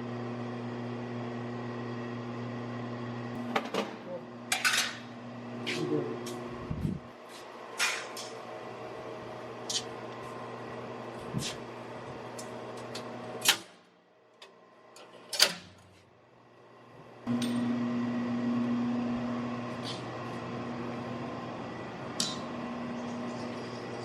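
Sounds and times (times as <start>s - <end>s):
electrical motor hum: 0.0s - 24.0s.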